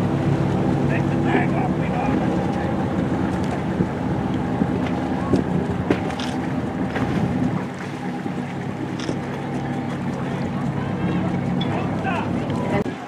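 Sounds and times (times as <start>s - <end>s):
boat engine humming: 0.0s - 13.0s
wind on microphone: 1.3s - 13.0s.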